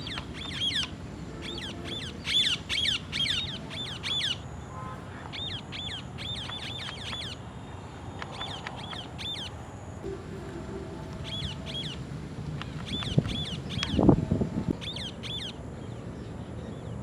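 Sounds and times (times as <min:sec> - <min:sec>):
parrot chirping: 0:00.0 - 0:04.4, 0:05.3 - 0:07.4, 0:08.3 - 0:15.6.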